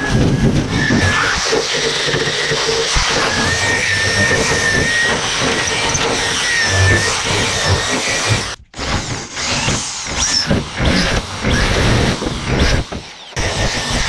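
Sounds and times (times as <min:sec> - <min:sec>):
electric drill boring into steel: 0:00.0 - 0:14.0.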